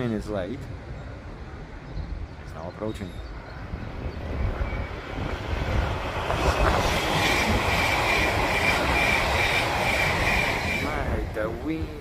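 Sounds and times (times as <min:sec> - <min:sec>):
wind buffeting microphone: 0:00.0 - 0:12.0
electric train passing at speed: 0:00.2 - 0:12.0.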